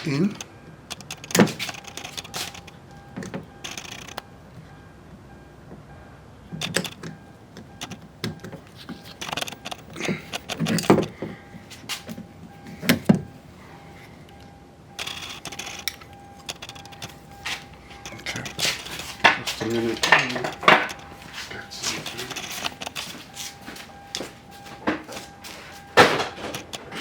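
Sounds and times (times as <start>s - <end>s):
door handle parts clicking and rattling: 0.0s - 4.2s, 6.6s - 13.3s, 15.0s - 27.0s.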